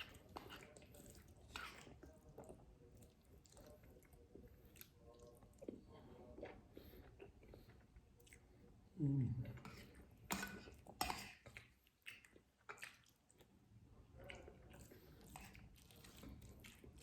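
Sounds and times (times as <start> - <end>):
wet chewing: 0.0 - 8.5, 9.4 - 17.0.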